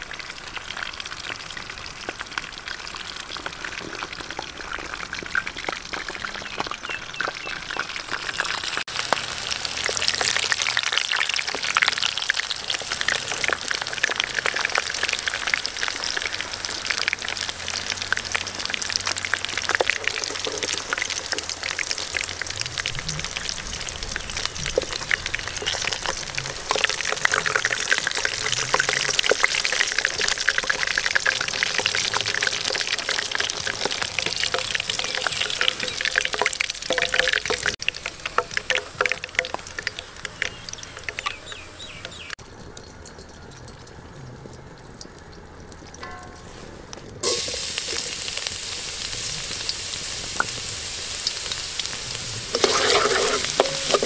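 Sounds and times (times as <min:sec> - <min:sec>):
meat sizzling: 0:00.0 - 0:42.7, 0:47.1 - 0:54.0.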